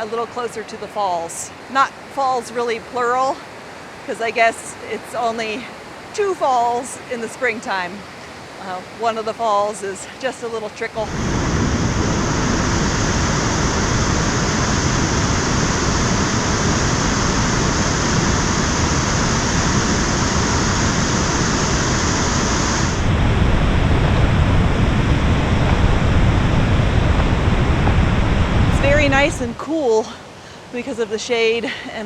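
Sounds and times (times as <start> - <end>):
waterfall rushing: 0.0 - 30.8.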